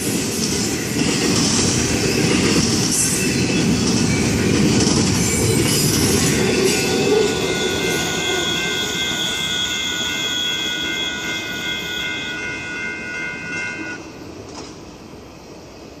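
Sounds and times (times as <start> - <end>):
freight train rumble: 0.0 - 16.0
crossing warning bell ringing: 0.7 - 14.4.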